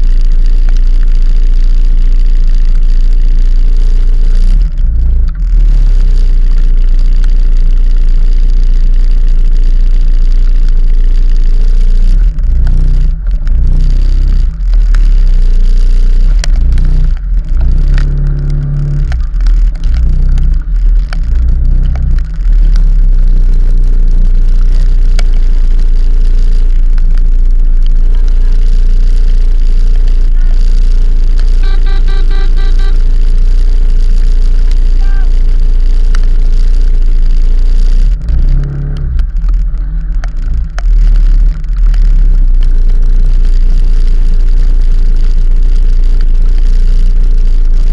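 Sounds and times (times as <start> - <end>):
road noise: 0.0 - 47.9
vehicle engine rumble: 0.0 - 47.9.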